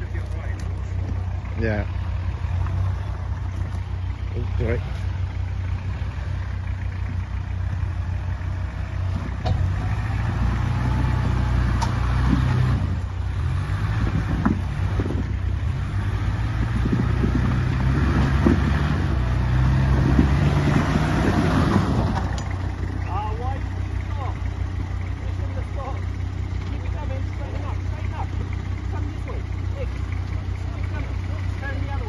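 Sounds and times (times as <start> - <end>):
off-road engine revving: 0.0 - 32.0.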